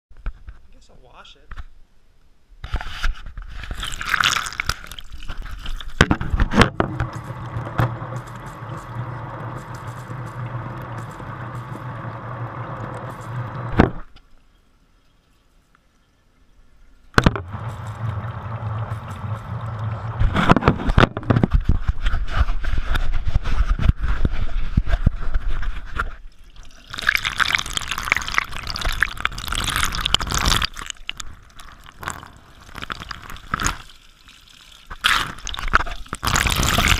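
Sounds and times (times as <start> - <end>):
water splashing onto camera: 3.5 - 14.3, 17.1 - 36.9.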